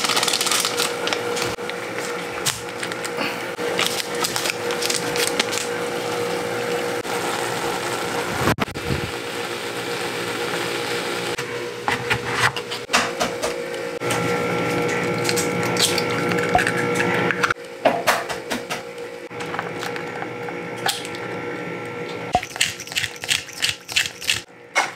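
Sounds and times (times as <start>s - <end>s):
kitchen appliance humming: 0.0s - 24.9s.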